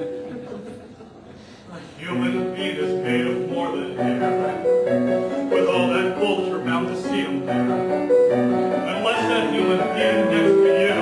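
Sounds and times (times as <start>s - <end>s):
piano playing held chords: 2.1s - 11.0s.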